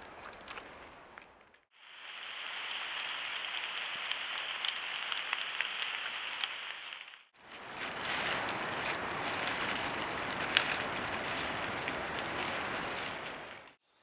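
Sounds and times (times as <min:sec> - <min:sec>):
outdoor ambience hiss: 0:00.0 - 0:14.0
faint ticks and crackles: 0:02.5 - 0:13.8.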